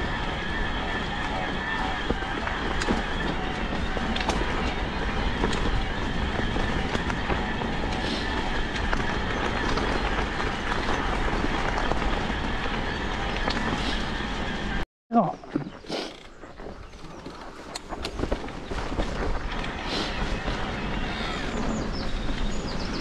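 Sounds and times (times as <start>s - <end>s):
bike tyres rolling and rattling: 0.0s - 14.8s, 16.1s - 23.0s
wind rumbling on microphone: 0.0s - 14.8s, 15.4s - 23.0s.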